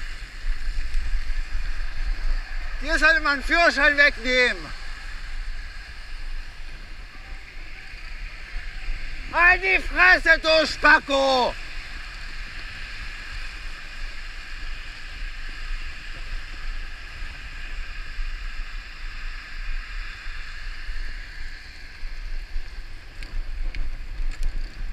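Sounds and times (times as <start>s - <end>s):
tyres hissing on wet road: 0.0s - 24.9s
wind buffeting camera: 0.0s - 24.9s.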